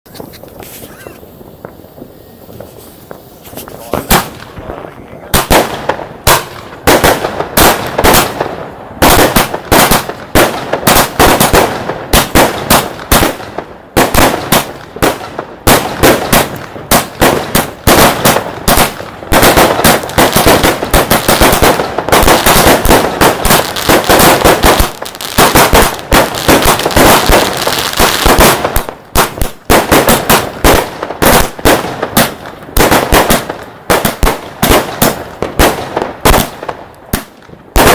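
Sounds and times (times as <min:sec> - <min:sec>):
fireworks barrage of bangs: 0:00.1 - 0:37.9.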